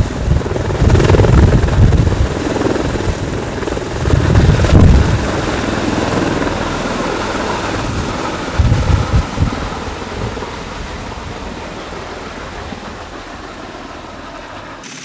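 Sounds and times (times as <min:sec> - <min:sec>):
wind buffeting microphone: 0:00.0 - 0:13.2
turbine noise: 0:00.0 - 0:14.1, 0:14.7 - 0:15.0.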